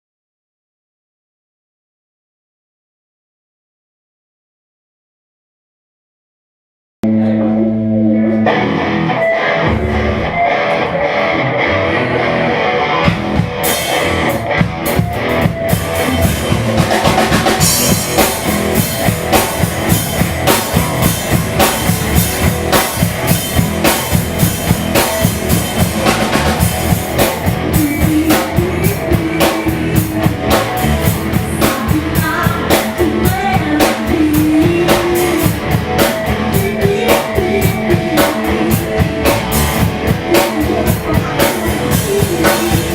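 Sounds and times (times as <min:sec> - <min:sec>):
drum kit: 0:07.0 - 0:42.9
electric guitar: 0:07.0 - 0:42.9
rock band playing live: 0:07.0 - 0:42.9.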